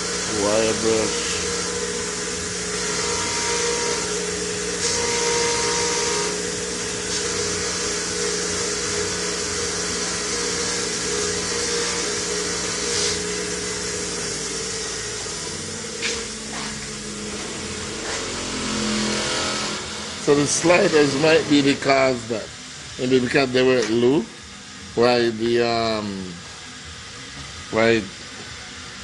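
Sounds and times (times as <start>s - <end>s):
bench grinder motor hum: 0.0s - 28.9s.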